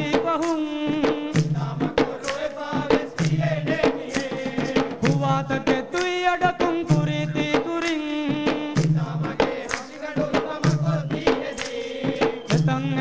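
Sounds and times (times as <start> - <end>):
hand drums beaten fast: 0.0 - 13.0.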